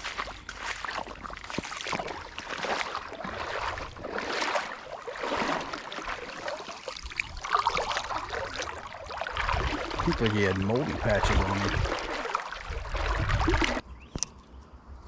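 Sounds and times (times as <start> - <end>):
river water sloshing and splashing: 0.0 - 13.8.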